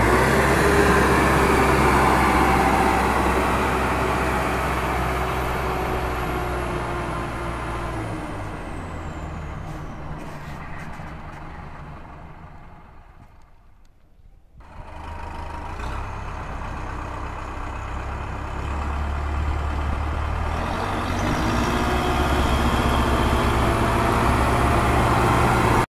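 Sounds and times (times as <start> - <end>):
diesel tractor engine throbbing: 0.0 - 13.5, 14.6 - 25.9.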